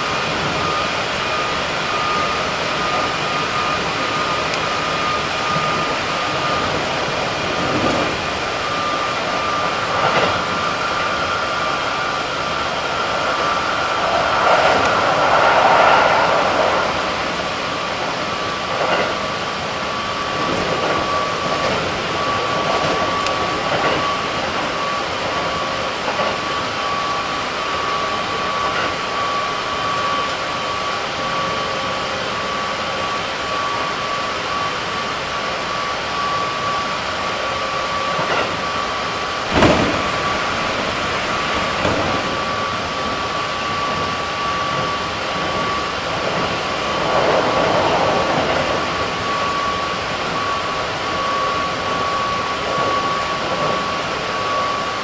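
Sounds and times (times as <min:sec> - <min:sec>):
high whine of traction drive: 0:00.0 - 0:55.0
train wheels rumbling on rails: 0:00.0 - 0:55.0.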